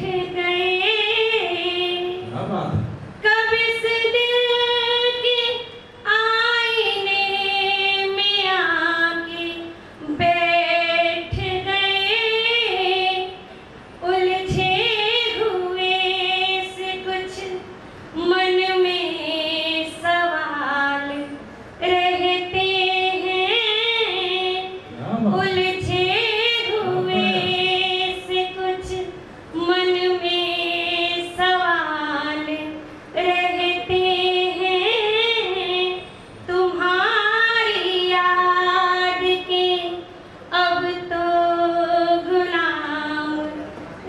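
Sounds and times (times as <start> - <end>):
woman singing into a microphone: 0.0 - 2.3, 3.2 - 43.8.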